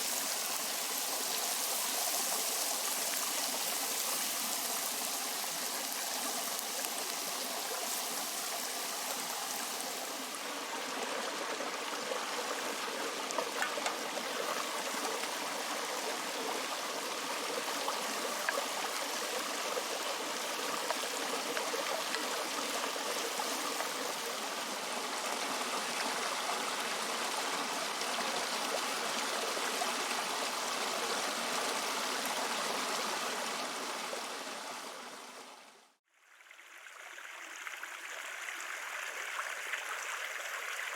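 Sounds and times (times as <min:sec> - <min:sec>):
creek water rushing: 0:00.0 - 0:35.5.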